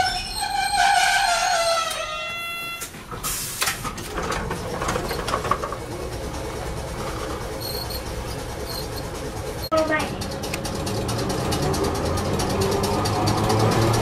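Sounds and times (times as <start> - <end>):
rail clatter: 0.0 - 14.0
tram rumbling on track: 0.0 - 14.0.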